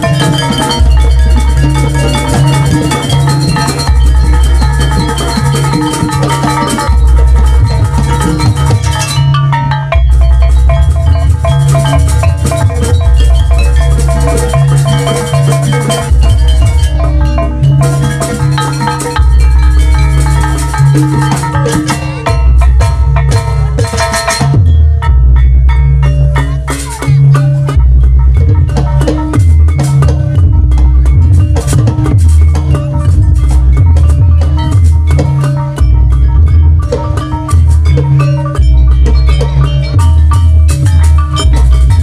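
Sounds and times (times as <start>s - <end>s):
drums: 0.0s - 42.0s
metal mallet percussion runs: 0.0s - 42.0s
deep bass: 6.8s - 23.9s, 24.5s - 42.0s.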